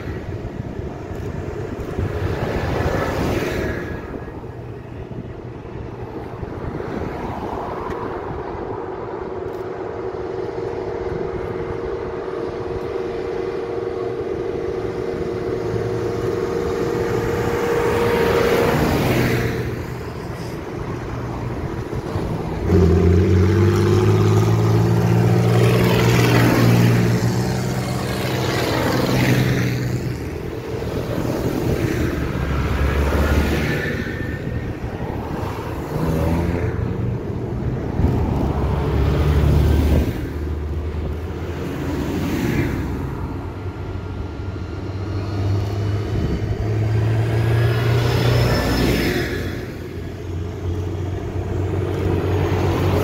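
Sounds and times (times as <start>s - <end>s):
tractor diesel engines: 0.0s - 53.0s.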